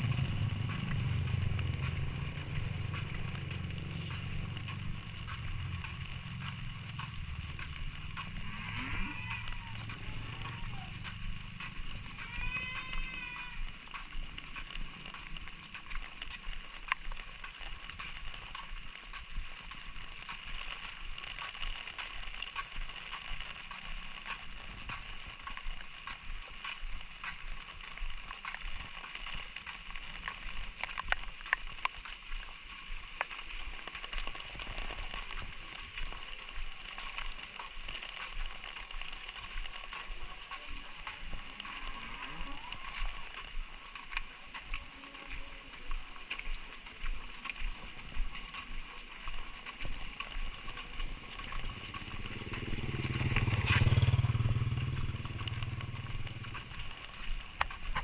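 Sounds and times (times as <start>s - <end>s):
drizzle drops ticking: 0.0s - 32.3s, 32.9s - 58.0s.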